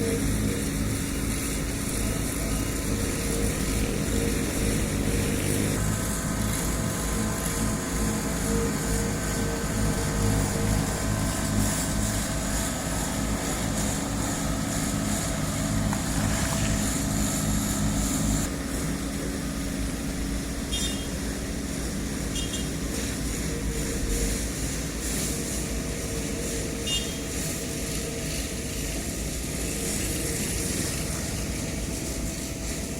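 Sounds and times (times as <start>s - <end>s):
heavy diesel engines running: 0.0s - 32.9s.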